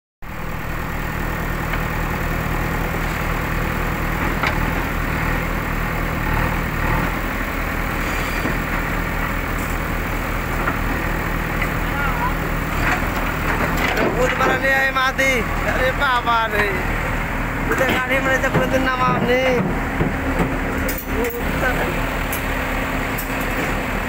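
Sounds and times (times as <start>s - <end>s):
excavator diesel engine running: 0.2s - 24.0s.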